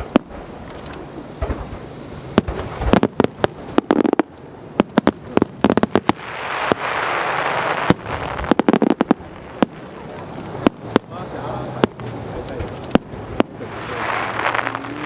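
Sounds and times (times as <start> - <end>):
fireworks bangs: 0.0 - 15.0
hissing crackle of fireworks: 0.0 - 15.0.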